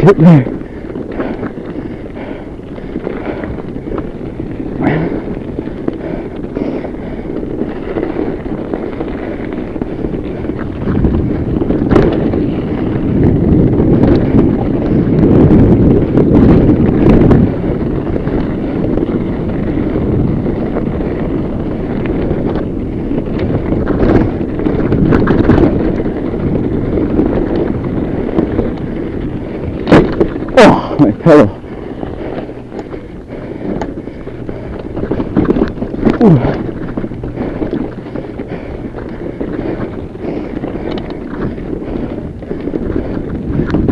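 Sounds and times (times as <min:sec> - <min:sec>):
bike knocks and rattles: 0:00.0 - 0:43.9
bike tyres rolling on rough trail: 0:00.0 - 0:43.9
wind on microphone: 0:00.0 - 0:43.9.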